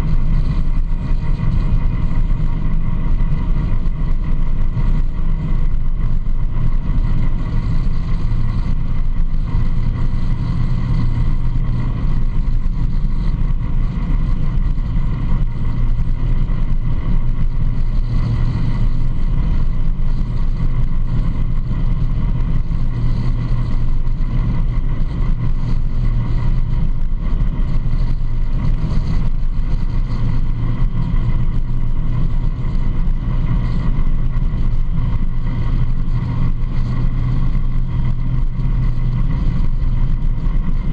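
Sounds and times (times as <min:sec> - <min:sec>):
atv engine running: 0:00.0 - 0:40.9
wind noise: 0:00.0 - 0:40.9.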